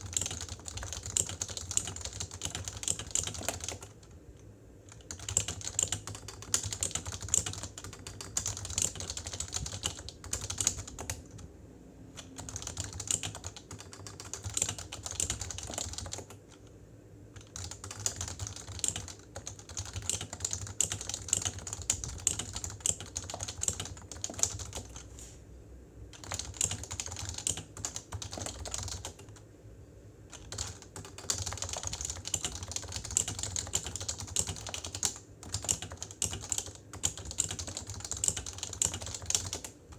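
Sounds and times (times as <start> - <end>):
typing on keyboard: 0.0 - 4.2, 4.9 - 11.4, 12.2 - 16.7, 17.3 - 25.1, 26.1 - 29.4, 30.3 - 39.9.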